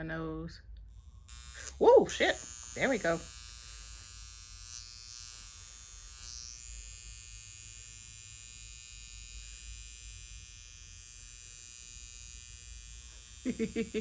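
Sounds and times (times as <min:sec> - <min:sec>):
facial machine buzzing: 0:00.8 - 0:14.0.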